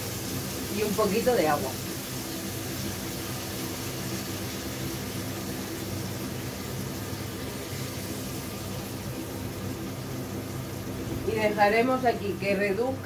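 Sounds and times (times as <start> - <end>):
liquid sizzling in a frying pan: 0.0 - 13.0.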